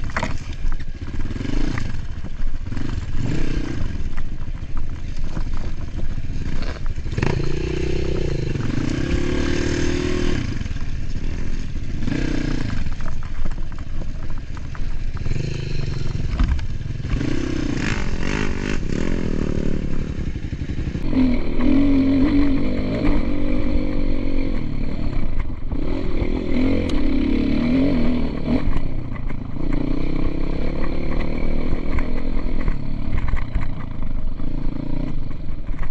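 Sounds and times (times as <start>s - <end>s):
dirt bike engine revving: 0.0s - 13.8s, 14.4s - 35.5s.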